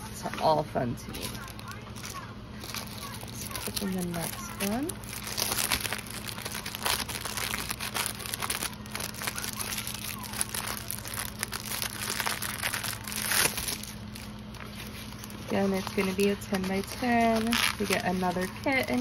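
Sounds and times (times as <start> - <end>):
plastic wrapping crinkling: 1.0 - 19.0.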